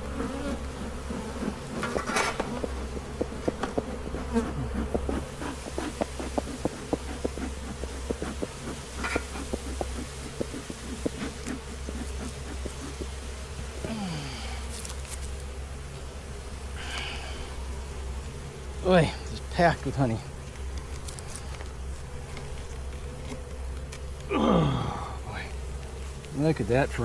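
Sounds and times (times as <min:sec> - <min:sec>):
bee colony humming: 0:00.0 - 0:27.0
bees buzzing past: 0:00.0 - 0:27.0.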